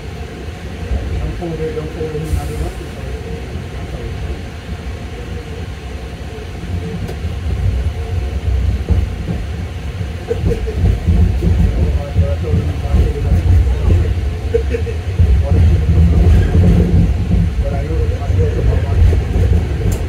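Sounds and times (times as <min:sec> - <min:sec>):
train car rumble: 0:00.0 - 0:20.0.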